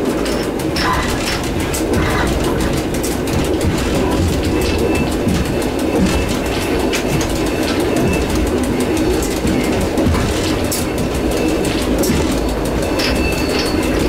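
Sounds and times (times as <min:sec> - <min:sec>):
rail-joint clicks: 0:00.0 - 0:14.0
train wheels rumbling on rails: 0:00.0 - 0:14.0.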